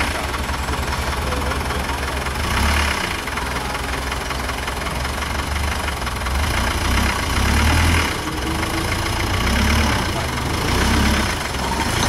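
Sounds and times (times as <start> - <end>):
truck engine rumbling at low revs: 0.0 - 12.0.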